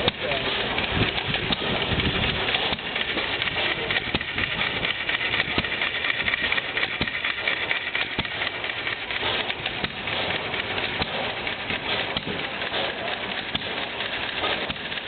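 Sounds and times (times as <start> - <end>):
engine clatter: 0.0 - 15.0
stationary gas engine firing: 0.0 - 15.0.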